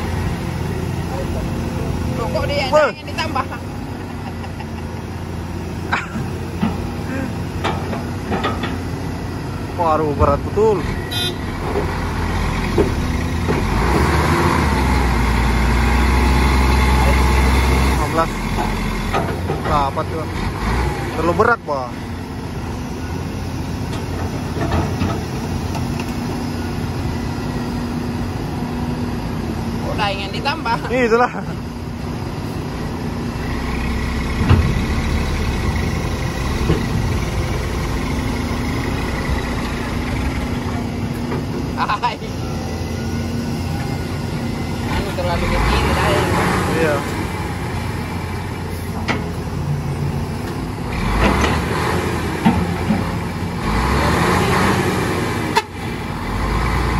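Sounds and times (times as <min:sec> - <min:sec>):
heavy diesel engine under load: 0:00.0 - 0:56.9.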